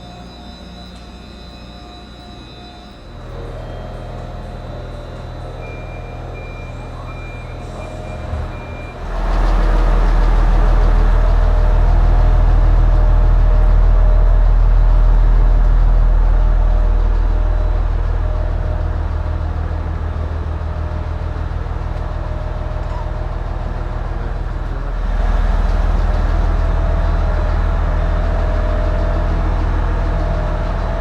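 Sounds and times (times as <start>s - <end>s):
diesel train engine droning: 0.0s - 31.0s
low idling hum: 2.1s - 31.0s.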